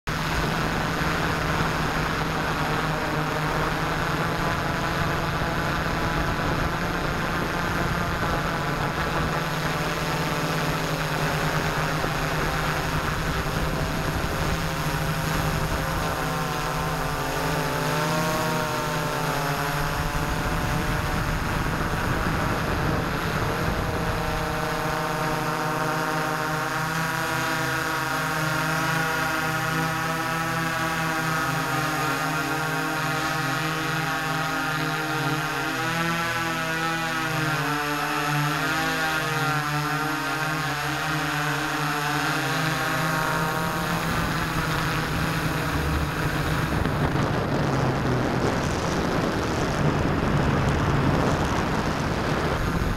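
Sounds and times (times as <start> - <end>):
drone propellers whirring: 0.1 - 52.9.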